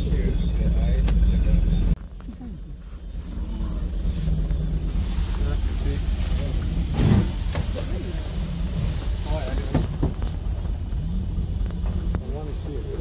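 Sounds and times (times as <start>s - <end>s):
bump: 0.0s - 13.0s
cricket chirping: 0.0s - 13.0s
steady low rumble: 0.0s - 13.0s.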